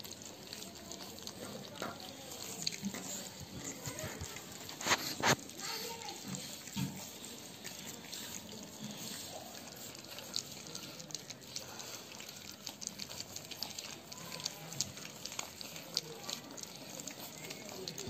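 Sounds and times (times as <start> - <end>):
puppies lapping wet food: 0.0 - 18.0.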